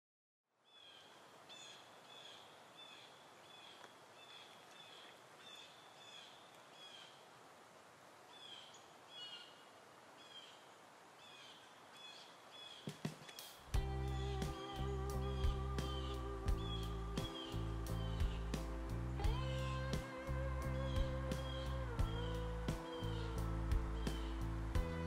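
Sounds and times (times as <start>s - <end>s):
faint outdoor hiss: 0.5s - 25.0s
small bird high call: 0.7s - 7.2s, 10.2s - 18.6s, 19.3s - 25.0s.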